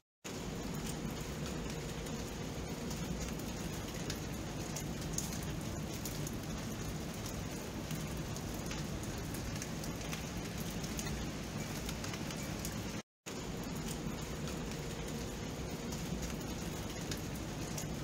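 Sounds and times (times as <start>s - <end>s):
steady rain hiss: 0.3s - 18.0s.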